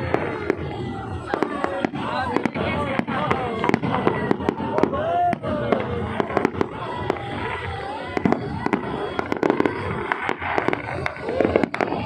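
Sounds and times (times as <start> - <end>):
crowd voices: 0.0 - 12.0
fireworks bangs and cracks: 0.0 - 12.0.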